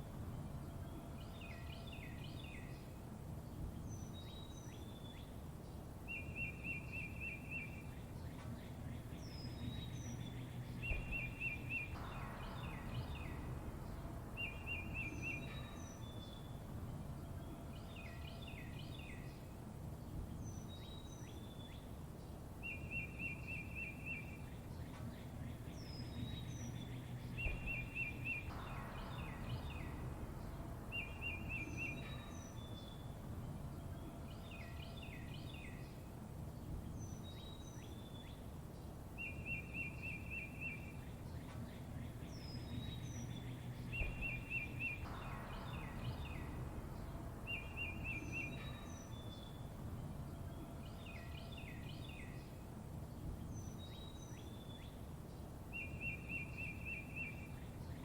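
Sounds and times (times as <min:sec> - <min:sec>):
low background rumble: 0:00.0 - 0:58.0
songbirds chirping: 0:00.0 - 0:58.0.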